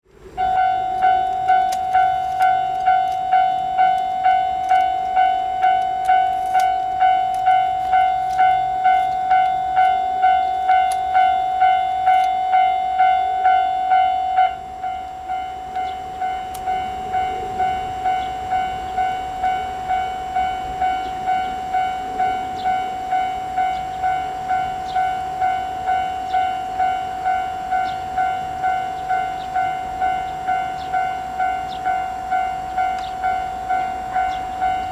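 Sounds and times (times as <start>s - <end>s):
level-crossing warning bell ringing: 0.2s - 34.9s.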